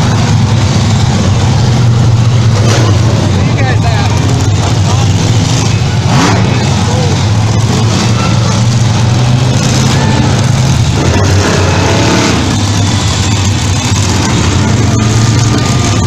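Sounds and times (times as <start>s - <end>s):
monster truck engines running: 0.0s - 16.0s
noisy crowd: 0.0s - 16.0s.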